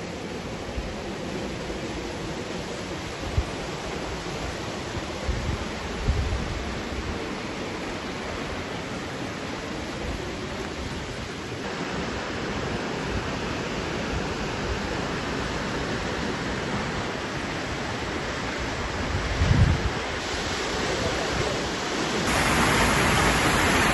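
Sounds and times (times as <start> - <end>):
creek water rushing: 0.0 - 23.9.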